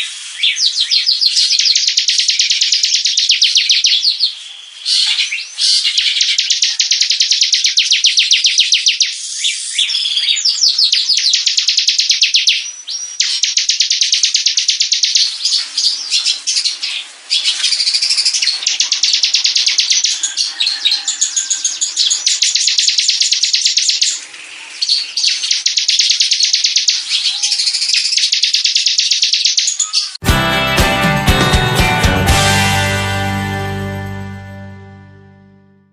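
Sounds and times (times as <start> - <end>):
songbird trilling: 0.0 - 24.2, 24.8 - 30.2.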